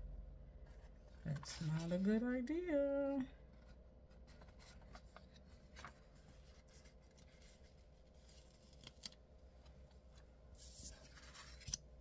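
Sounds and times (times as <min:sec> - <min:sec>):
paper rustling: 0:00.7 - 0:02.1, 0:03.5 - 0:11.9.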